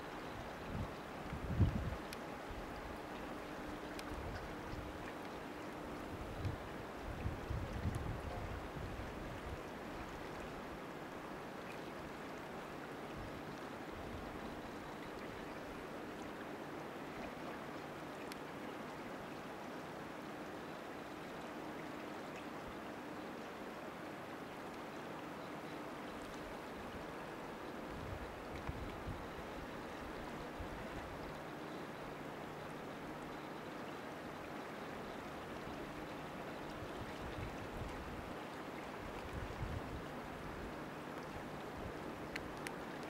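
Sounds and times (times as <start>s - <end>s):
river water rushing: 0.0s - 43.0s.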